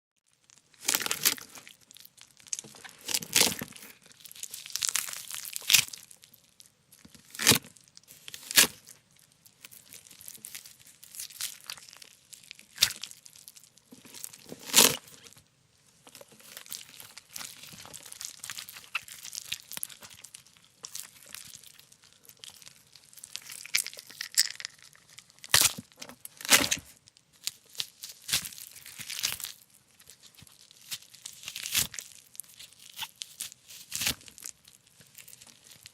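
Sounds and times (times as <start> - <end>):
pumpkin tearing and crunching: 0.4 - 15.4, 16.1 - 35.9.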